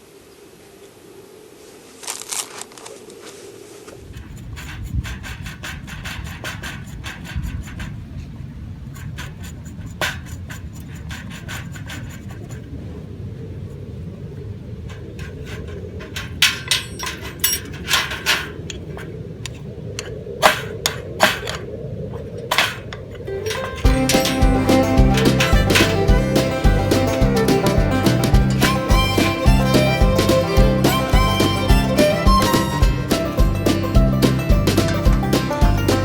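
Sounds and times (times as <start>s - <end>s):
knocks clicks and scrapes: 3.9s - 12.8s, 14.8s - 36.0s
steady low rumble: 4.0s - 36.0s.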